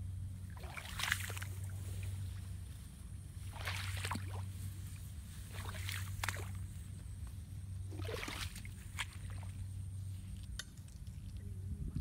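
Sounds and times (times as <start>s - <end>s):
steady low hum: 0.0s - 12.0s
water splashing and sloshing: 0.4s - 2.5s, 3.3s - 7.2s, 7.8s - 11.6s.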